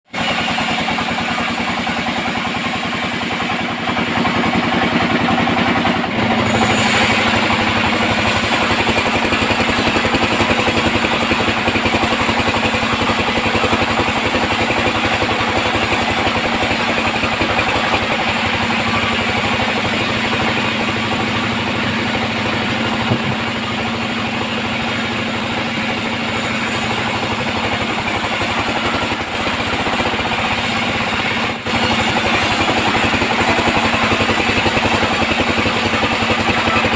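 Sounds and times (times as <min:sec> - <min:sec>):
band saw and engine running: 0:00.0 - 0:36.9.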